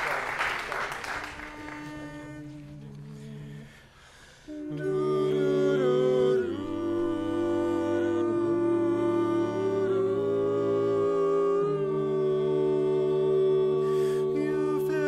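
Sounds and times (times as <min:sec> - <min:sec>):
men singing in harmony: 0:01.4 - 0:15.0.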